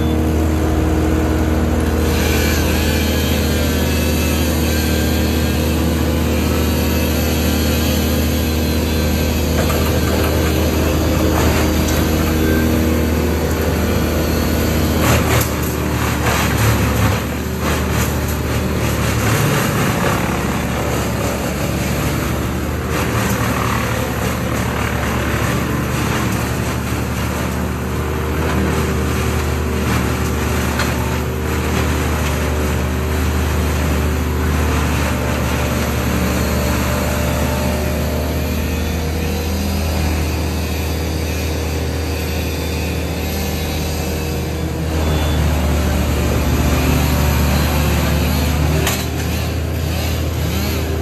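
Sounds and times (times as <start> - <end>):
brush chipper engine drone: 0.0 - 51.0
mini loader diesel engine: 0.0 - 51.0.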